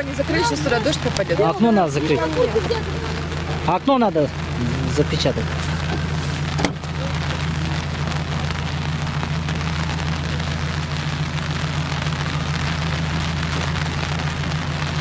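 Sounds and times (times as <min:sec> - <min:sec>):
steady rain falling: 0:00.0 - 0:15.0
van engine idling: 0:00.0 - 0:15.0.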